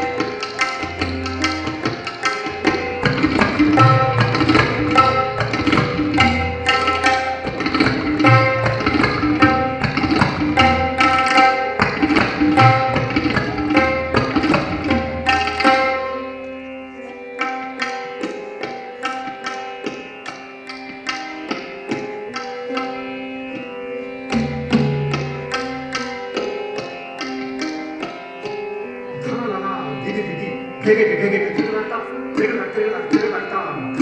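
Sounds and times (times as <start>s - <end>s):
repeating lehra melody: 0.0s - 34.0s
tabla drumming: 0.0s - 34.0s.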